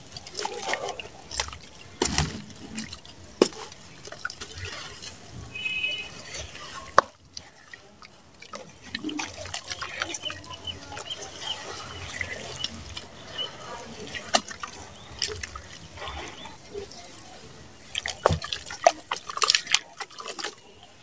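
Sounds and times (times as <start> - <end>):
wet squelching in muddy water: 0.0 - 21.0.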